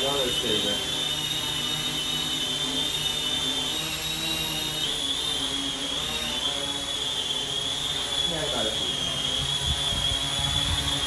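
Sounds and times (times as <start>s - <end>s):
drone hovering with high whine: 0.0s - 11.0s.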